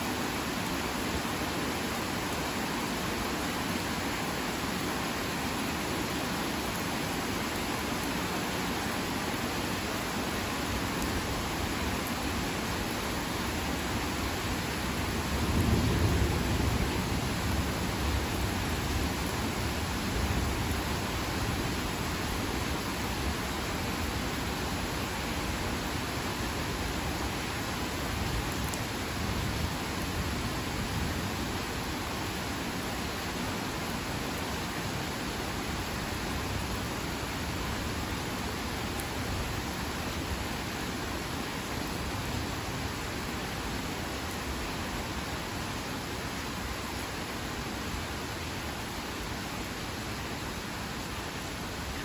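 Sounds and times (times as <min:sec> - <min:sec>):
heavy rain: 0:00.0 - 0:52.0.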